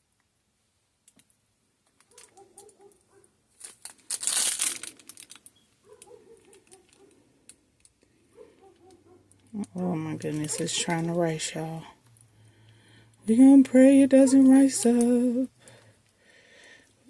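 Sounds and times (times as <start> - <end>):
plastic piping bag crinkling: 1.8 - 16.0.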